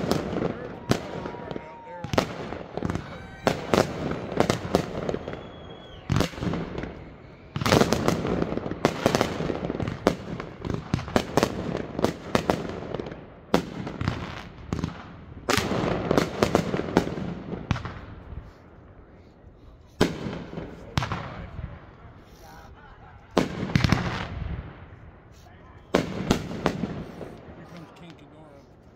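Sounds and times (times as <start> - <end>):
fireworks bursting: 0.0 - 28.8.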